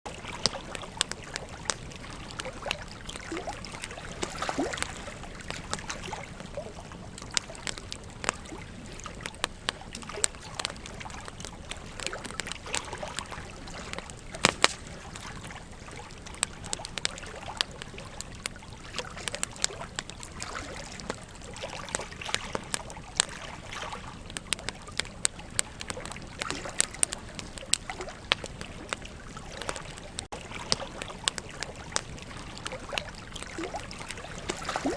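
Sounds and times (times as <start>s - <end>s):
campfire crackling and popping: 0.1s - 34.9s
river water flowing: 0.1s - 34.9s.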